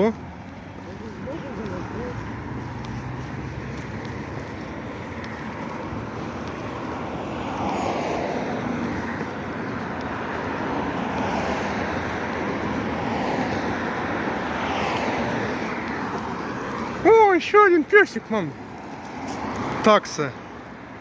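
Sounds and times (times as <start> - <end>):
passing vehicles: 0.0 - 21.0.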